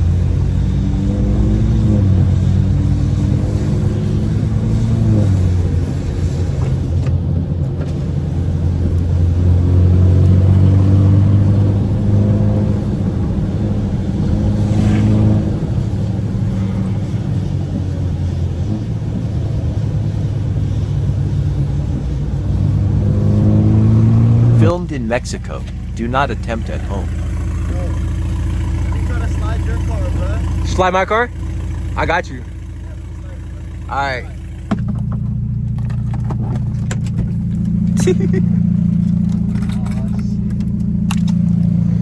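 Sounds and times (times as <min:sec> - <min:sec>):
car engine and exhaust drone: 0:00.0 - 0:42.0.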